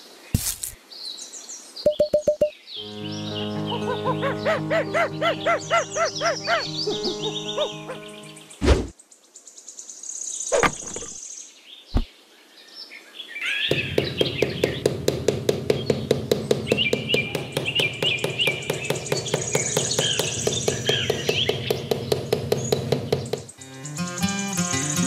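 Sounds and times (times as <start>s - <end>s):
birds chirping: 0.9s - 9.2s, 10.3s - 25.0s.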